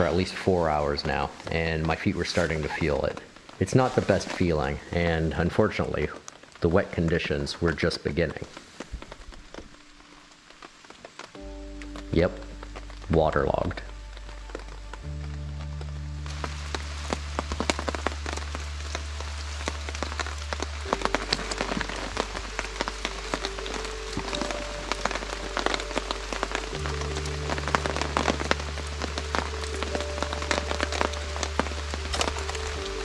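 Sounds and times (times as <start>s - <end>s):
rain drops spattering: 0.0s - 33.0s
soft background music: 0.0s - 33.0s.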